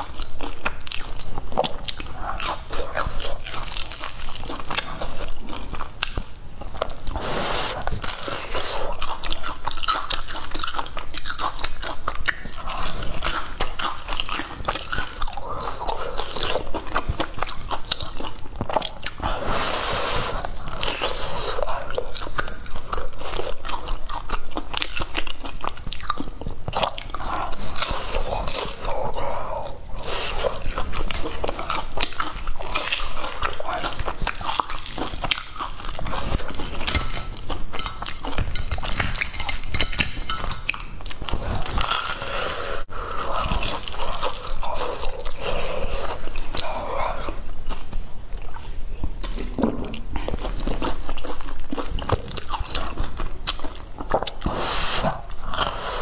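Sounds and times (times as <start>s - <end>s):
chewing crispy food: 0.0s - 19.6s, 20.2s - 56.0s.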